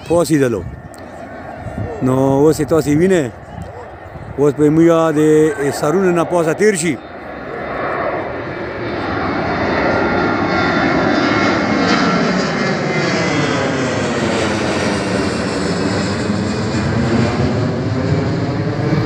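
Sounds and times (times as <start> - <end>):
jet airliner climbing overhead: 0.0 - 19.0.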